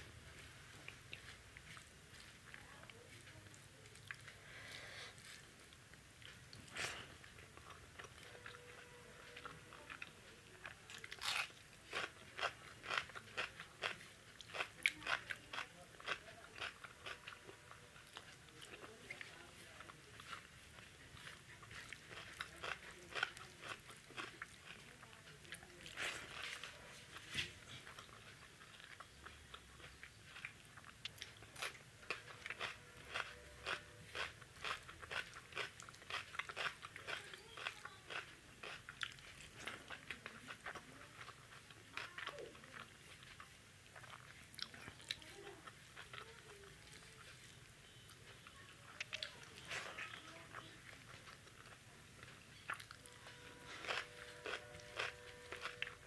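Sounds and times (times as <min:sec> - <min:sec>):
person chewing food: 0:00.1 - 0:56.0.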